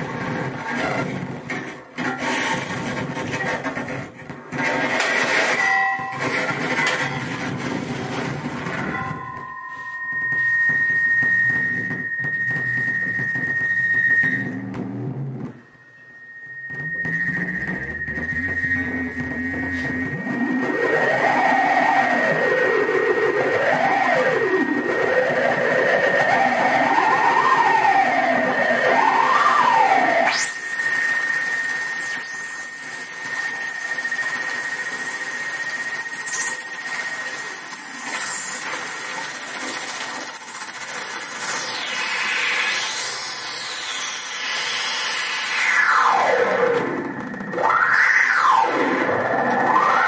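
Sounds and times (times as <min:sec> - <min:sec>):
dense electronic feedback hiss: 0:00.0 - 0:50.0
harsh wavering drone: 0:00.0 - 0:50.0
steady high tone: 0:05.4 - 0:50.0.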